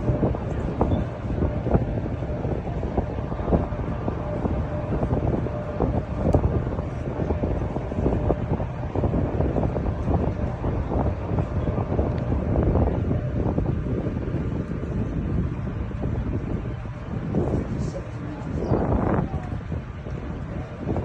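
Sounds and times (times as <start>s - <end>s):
faint steady hum: 0.0s - 21.0s
low rumble: 0.0s - 21.0s
wind buffeting microphone: 0.0s - 21.0s.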